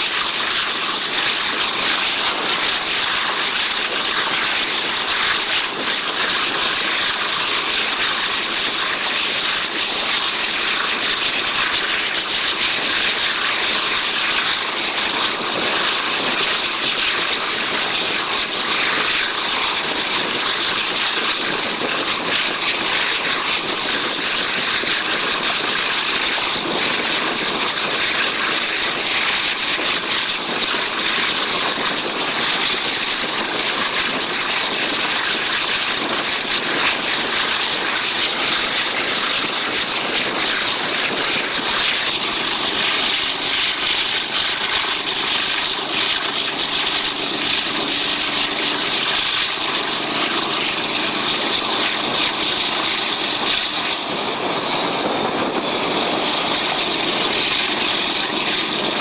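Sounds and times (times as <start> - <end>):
passenger train running at speed: 0.0 - 59.0.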